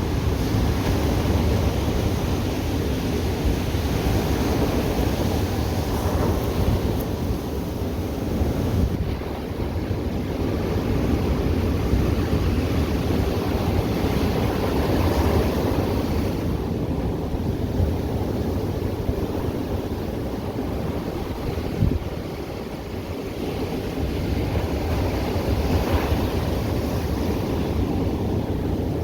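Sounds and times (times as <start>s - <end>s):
ocean surf breaking: 0.0s - 29.0s
wind on microphone: 0.0s - 29.0s.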